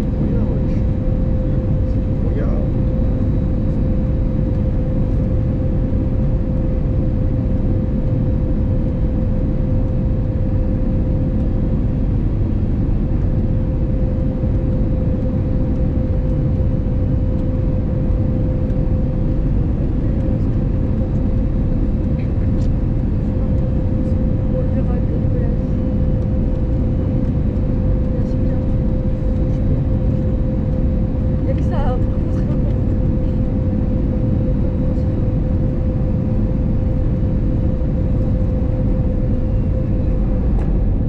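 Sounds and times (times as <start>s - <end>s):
aircraft cabin engine rumble: 0.0s - 41.0s
steady hum: 0.0s - 41.0s.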